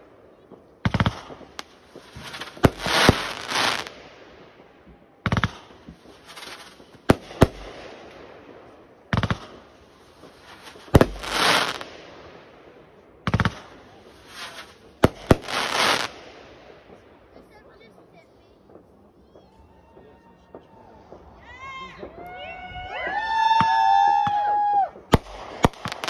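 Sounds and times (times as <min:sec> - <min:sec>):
firework crackling: 0:00.0 - 0:26.0.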